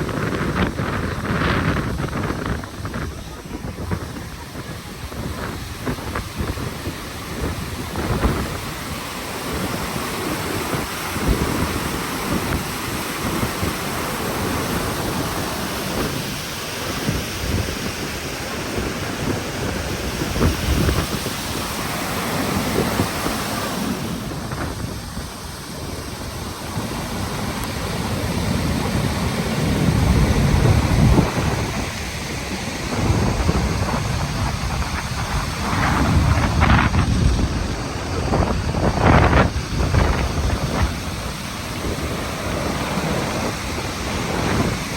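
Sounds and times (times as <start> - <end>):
rushing falling water: 0.0 - 44.9
wind buffeting microphone: 0.0 - 44.9.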